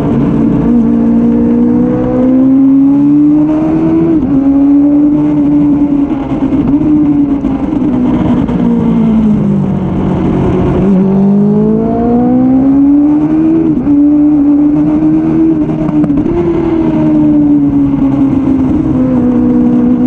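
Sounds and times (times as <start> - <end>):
motorcycle engine revving: 0.0 - 20.0
wind rush over microphone: 0.0 - 20.0.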